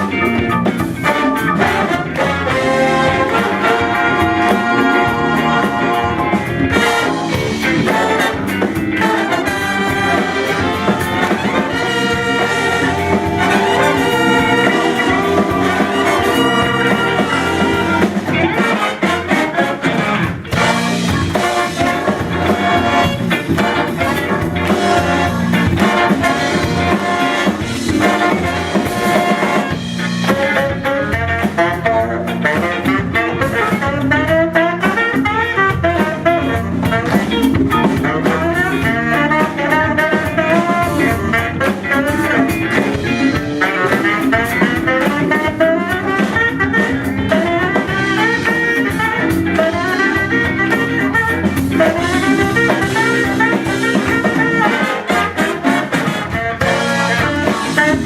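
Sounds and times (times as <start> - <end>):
soul-jazz band music: 0.0 - 58.0.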